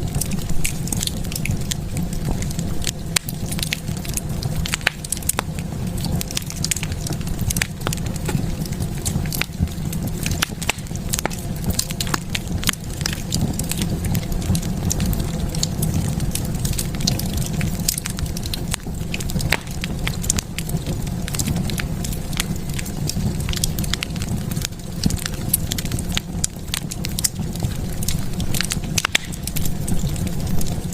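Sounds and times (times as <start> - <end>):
fire crackling and popping: 0.0 - 30.9
fire flames rumbling: 0.0 - 30.9.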